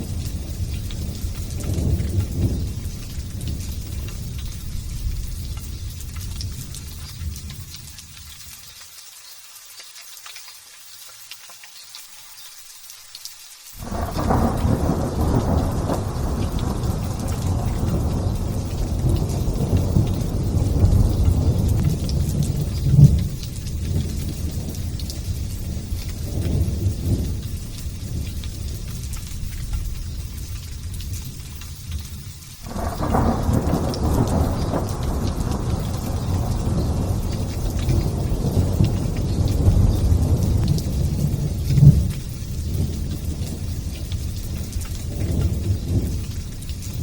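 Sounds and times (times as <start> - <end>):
thunder clap and rumble: 0.0 - 7.7, 13.8 - 47.0
light rain hissing: 0.0 - 47.0.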